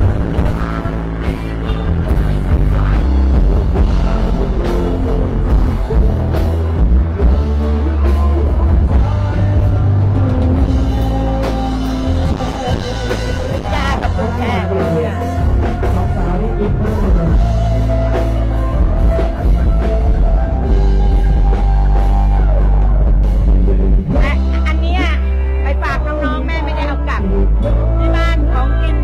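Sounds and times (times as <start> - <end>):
drums: 0.0 - 29.0
heavy bass line: 0.0 - 29.0
loud rock music: 0.0 - 29.0
person singing: 0.0 - 29.0.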